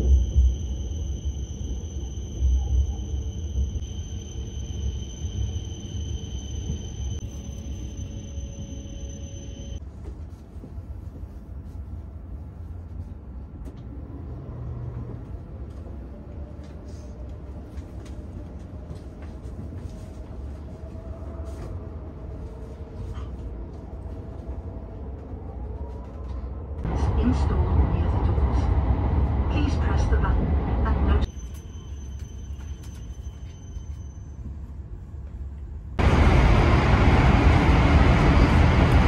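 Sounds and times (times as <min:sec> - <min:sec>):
train low rumble inside car: 0:00.0 - 0:39.0.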